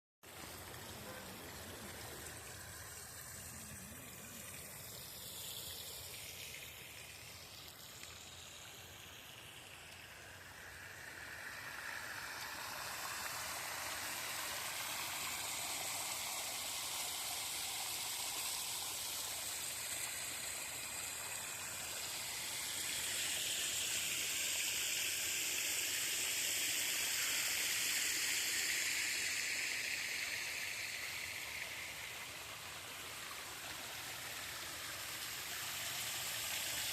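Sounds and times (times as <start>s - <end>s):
water running and trickling: 0.2s - 36.9s.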